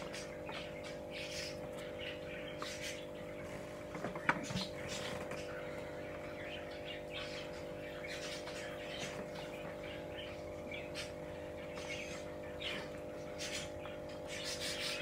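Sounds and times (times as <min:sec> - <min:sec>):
faint bird chirps: 0:00.0 - 0:15.0
low electrical hum: 0:00.0 - 0:15.0.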